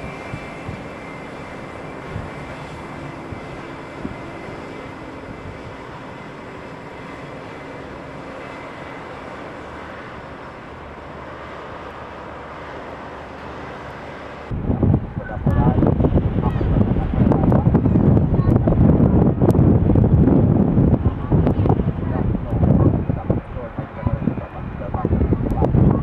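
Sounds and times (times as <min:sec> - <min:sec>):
aircraft engines running: 0:00.0 - 0:26.0.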